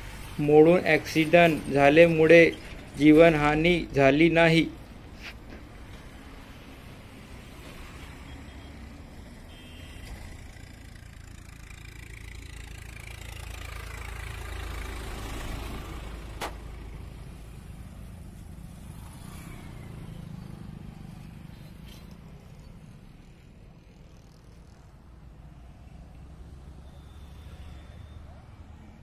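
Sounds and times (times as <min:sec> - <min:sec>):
vehicles passing on highway: 0:00.0 - 0:29.0.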